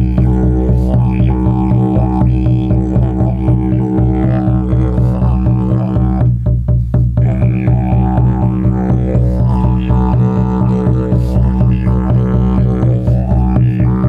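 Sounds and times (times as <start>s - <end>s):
didgeridoo drone: 0.0s - 14.0s.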